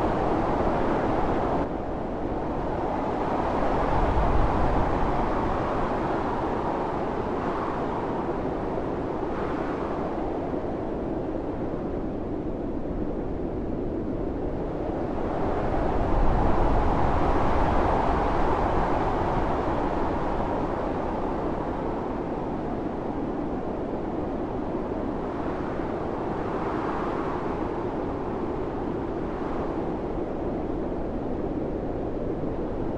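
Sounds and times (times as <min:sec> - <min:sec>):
storm wind blowing hard: 0:00.0 - 0:32.9.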